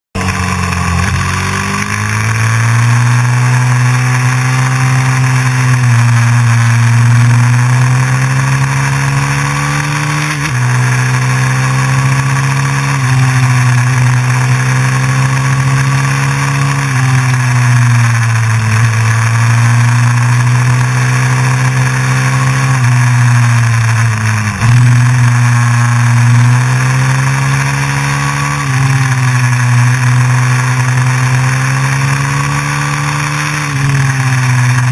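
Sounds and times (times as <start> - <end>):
motorcycle engine pulling hard: 0.1 - 34.9.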